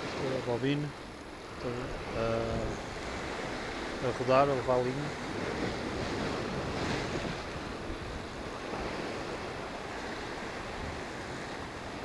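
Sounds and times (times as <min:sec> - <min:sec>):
sea surf on rocks: 0:00.0 - 0:12.0
wind buffeting microphone: 0:00.0 - 0:12.0.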